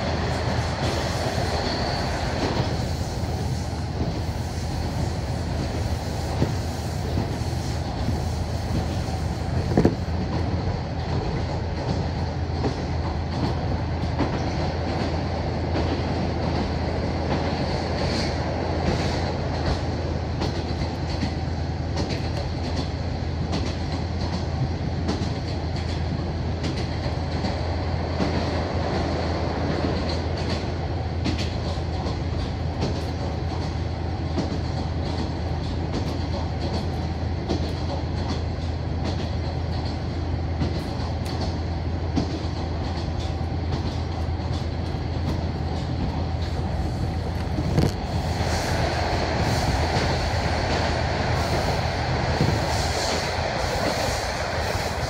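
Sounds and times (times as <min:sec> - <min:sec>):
wheel and rail noise: 0:00.0 - 0:55.0.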